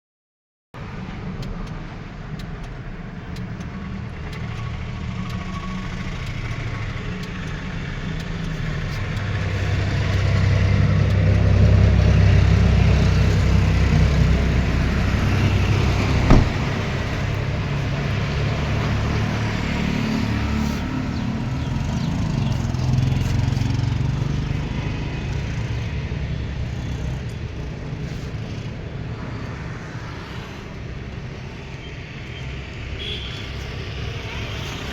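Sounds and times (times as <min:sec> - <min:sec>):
car engine running: 0:01.1 - 0:29.7.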